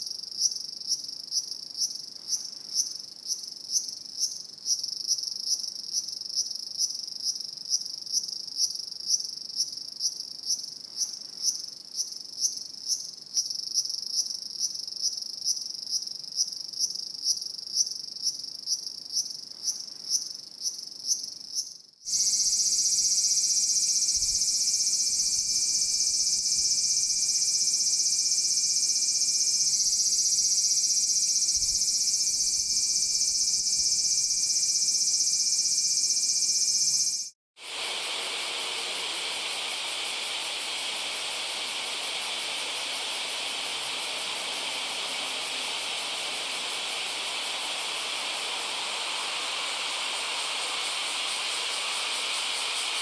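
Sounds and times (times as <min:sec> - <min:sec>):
crickets chirping: 0:00.0 - 0:53.0
dense insect trill: 0:00.0 - 0:53.0.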